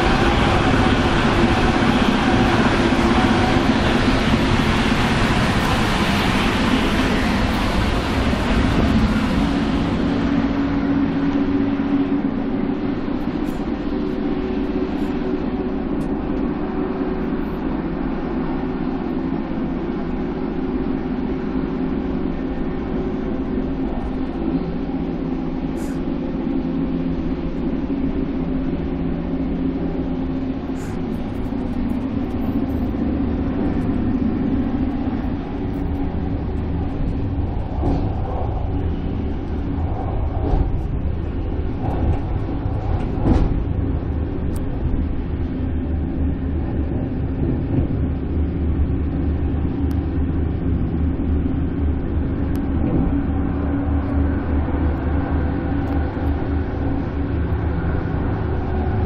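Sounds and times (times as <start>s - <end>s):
train rumble inside coach: 0.0s - 59.0s.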